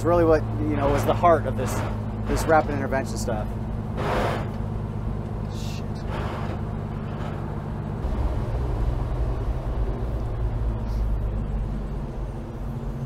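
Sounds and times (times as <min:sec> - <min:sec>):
road noise: 0:00.0 - 0:13.0
truck engine rumbling: 0:00.0 - 0:13.0.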